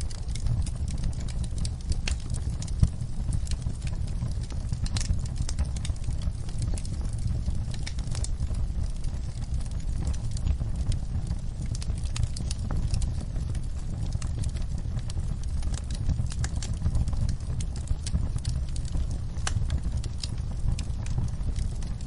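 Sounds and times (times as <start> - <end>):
fire crackling and popping: 0.0 - 22.0
fire low rumble: 0.0 - 22.0.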